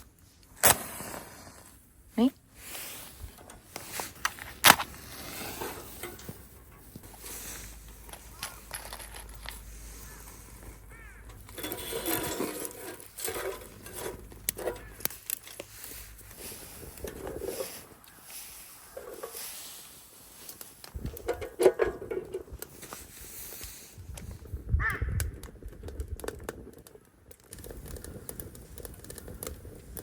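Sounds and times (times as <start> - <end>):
rustling: 0.0 - 24.5.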